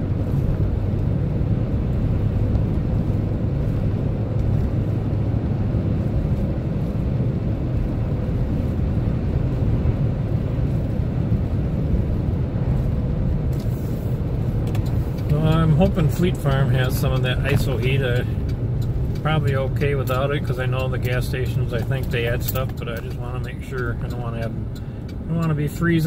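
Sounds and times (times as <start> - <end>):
engine and tyre rumble: 0.0 - 26.0.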